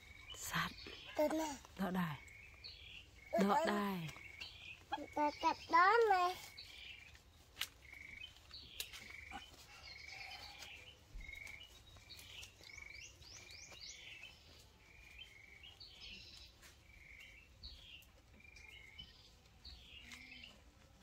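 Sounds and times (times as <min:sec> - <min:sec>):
faint bird chirping: 0:00.0 - 0:20.9.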